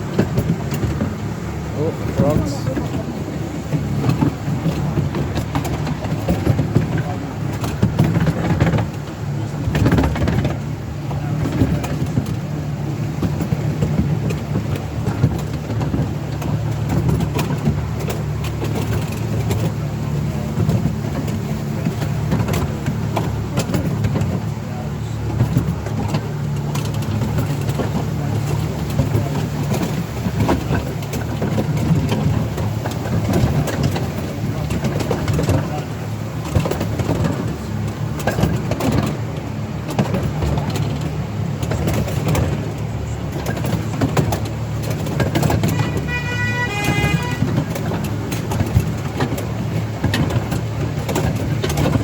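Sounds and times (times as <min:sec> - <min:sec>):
light clicks and knocks: 0:00.0 - 0:52.0
miniature train engine hum: 0:00.0 - 0:52.0.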